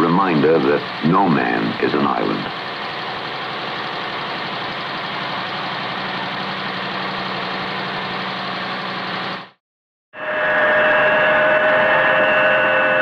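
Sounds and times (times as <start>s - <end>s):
machinery droning: 0.0s - 9.6s, 10.2s - 13.0s.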